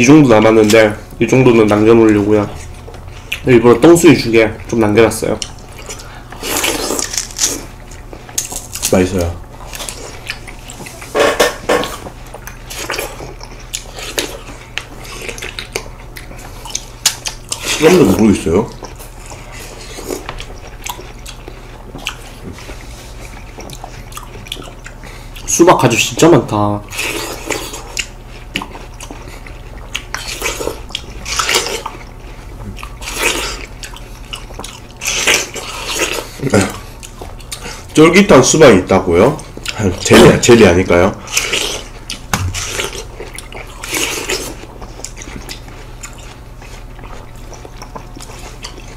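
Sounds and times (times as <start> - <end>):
biting and chewing watermelon: 0.0 - 48.9.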